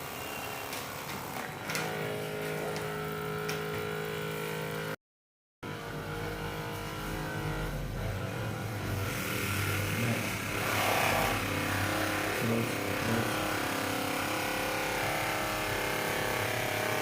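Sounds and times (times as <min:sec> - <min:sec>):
motor hum: 0:00.0 - 0:05.0, 0:05.6 - 0:17.0.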